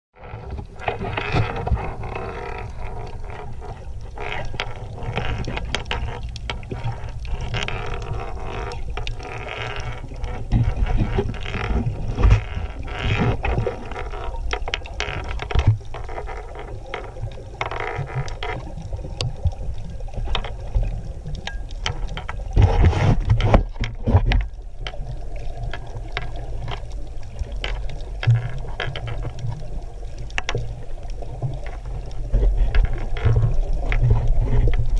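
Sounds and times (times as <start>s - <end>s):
muffled underwater rumble: 0.2s - 34.9s
short clicks and crackles: 0.2s - 34.9s.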